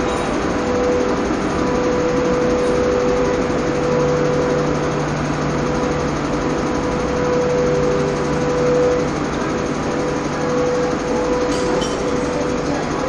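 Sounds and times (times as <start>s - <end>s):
electric locomotive drone and whine: 0.0s - 13.0s.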